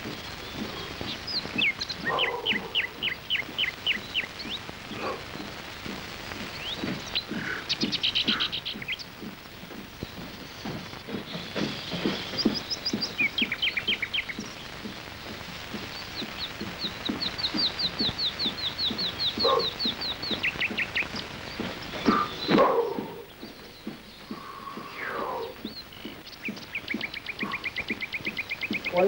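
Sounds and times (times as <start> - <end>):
falling bird call: 0.0 - 10.0, 10.6 - 29.0
songbirds chirping trills: 0.0 - 29.0.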